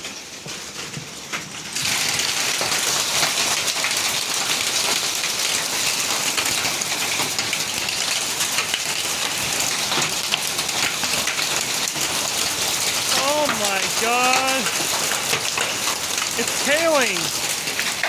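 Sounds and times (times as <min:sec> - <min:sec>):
heavy rain and hail: 0:00.0 - 0:18.0.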